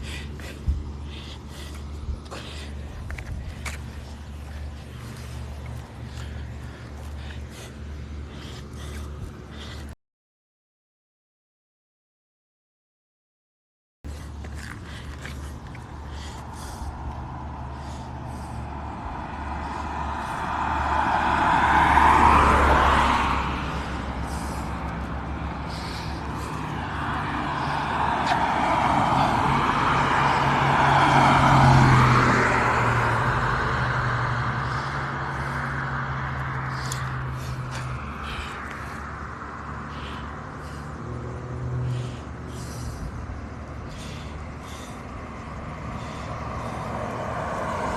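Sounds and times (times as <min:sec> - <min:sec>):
low engine hum: 0:00.0 - 0:10.0, 0:14.1 - 0:47.9
vehicles driving past: 0:00.0 - 0:10.0, 0:14.1 - 0:47.9.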